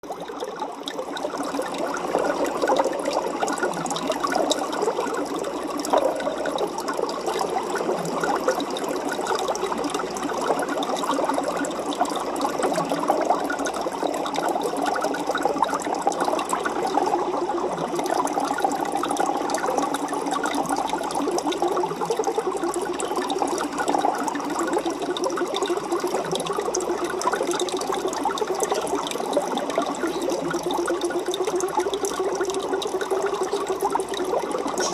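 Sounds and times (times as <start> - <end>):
aquarium water running: 0.0 - 34.9
crackle of splashes and bubbles: 0.0 - 34.9.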